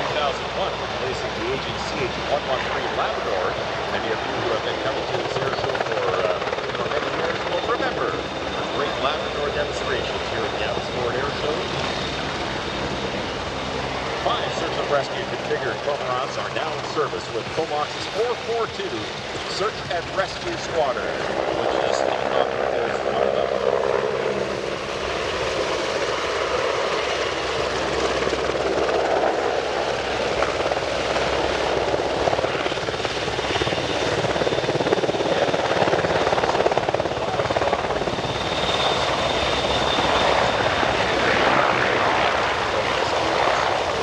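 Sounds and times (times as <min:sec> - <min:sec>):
helicopter rotor chop: 0:00.0 - 0:44.0.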